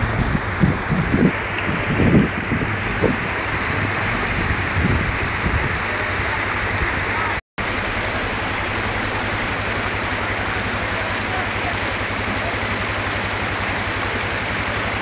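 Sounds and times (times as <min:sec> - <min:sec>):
atv engine running low: 0:00.0 - 0:15.0
creek water rushing over rocks: 0:00.0 - 0:15.0.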